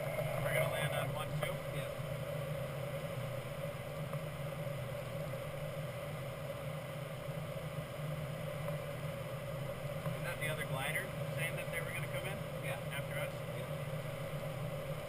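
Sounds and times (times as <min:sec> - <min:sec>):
constant low hum: 0:00.0 - 0:15.0
rush of air over canopy: 0:00.0 - 0:15.0.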